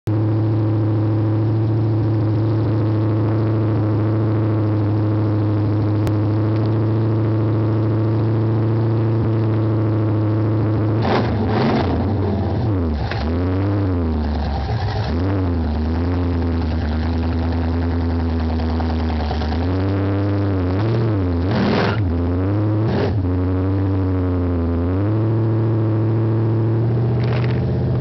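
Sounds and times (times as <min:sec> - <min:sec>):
car engine idling and revving: 0:00.1 - 0:28.0.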